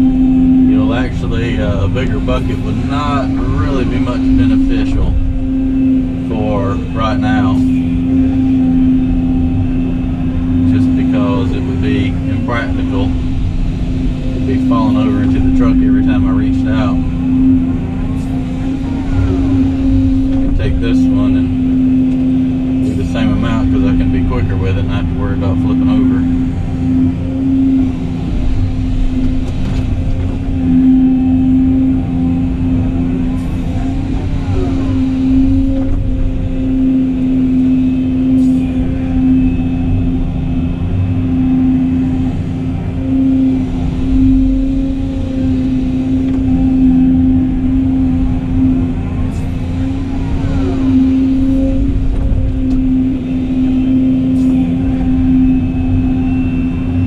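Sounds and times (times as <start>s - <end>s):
excavator engine hum: 0.0s - 57.0s
hydraulic whines rising and falling: 0.0s - 57.0s.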